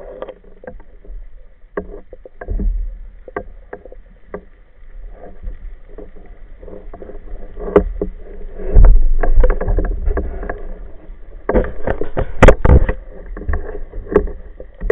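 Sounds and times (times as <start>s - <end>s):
low underwater rumble: 0.0s - 14.9s
underwater clicks and knocks: 0.0s - 14.9s.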